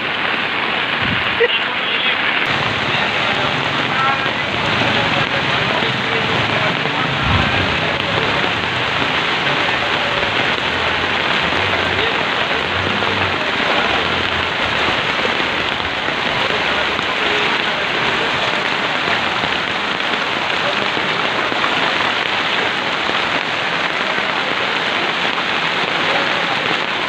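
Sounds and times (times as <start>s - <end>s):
heavy rain and rushing floodwater: 0.0s - 27.0s.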